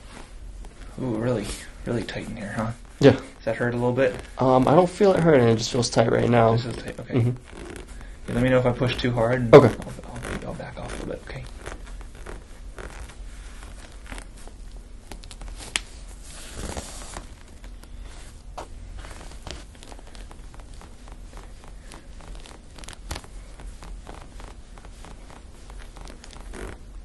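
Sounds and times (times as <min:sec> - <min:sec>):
hands rubbing skin and hair: 0:00.0 - 0:27.0
steady low hum: 0:00.0 - 0:27.0.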